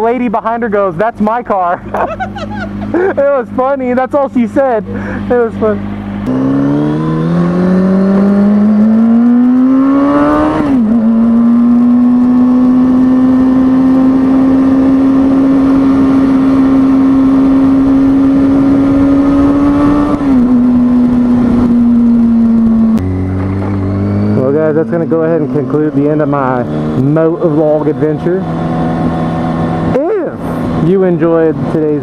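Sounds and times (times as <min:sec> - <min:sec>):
motorcycle engine accelerating: 0:01.9 - 0:32.0.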